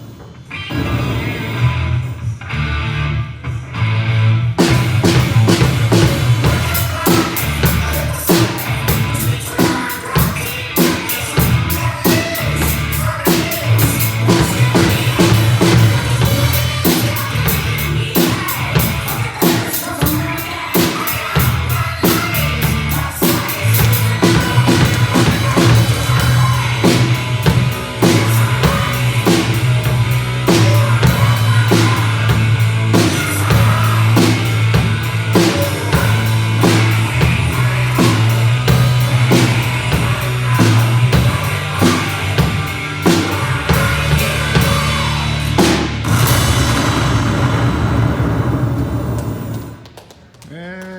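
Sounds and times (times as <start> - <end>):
sustained bass line: 1.0 - 9.4, 11.4 - 19.0, 21.4 - 49.6
drum kit beat: 4.6 - 47.7.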